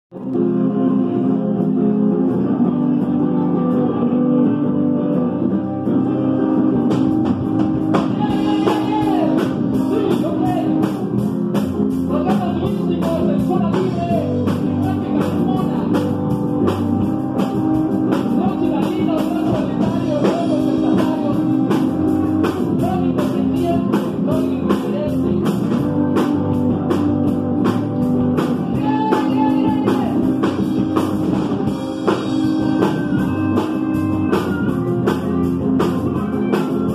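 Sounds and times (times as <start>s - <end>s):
bass guitar: 0.0s - 36.9s
drum kit: 0.1s - 36.9s
electric guitar: 0.1s - 36.9s.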